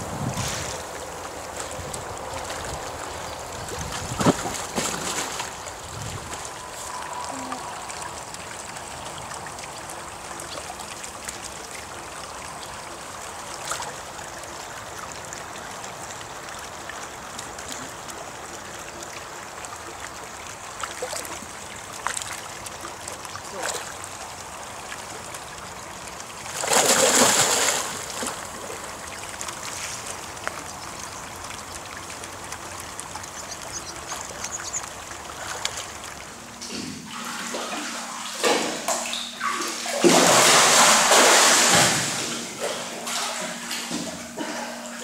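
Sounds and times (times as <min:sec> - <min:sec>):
water sloshing in pool: 0:00.0 - 0:45.0
water splashing: 0:00.0 - 0:45.0.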